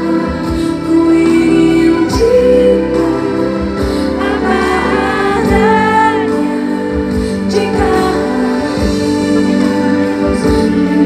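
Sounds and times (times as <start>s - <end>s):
live band playing pop ballad: 0.0s - 11.0s
person singing: 0.0s - 11.0s.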